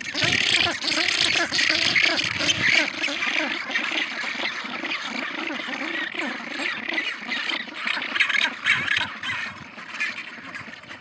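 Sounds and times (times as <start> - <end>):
penguins squawking and braying: 0.0 - 11.0.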